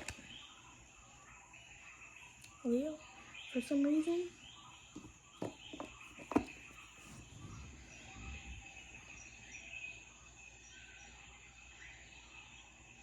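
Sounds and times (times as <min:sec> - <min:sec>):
small bird chirps: 0:00.0 - 0:13.0.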